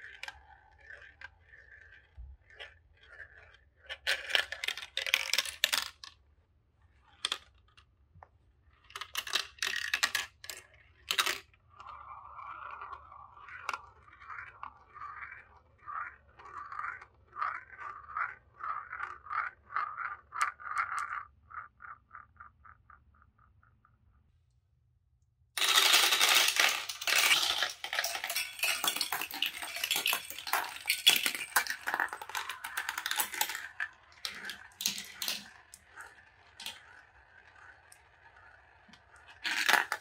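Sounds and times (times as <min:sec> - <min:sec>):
marble whirring round a funnel: 0:00.0 - 0:06.0, 0:09.0 - 0:23.4, 0:25.6 - 0:40.0
marble clattering down plastic tubes: 0:00.0 - 0:06.2, 0:07.0 - 0:07.9, 0:08.6 - 0:22.5, 0:25.6 - 0:40.0.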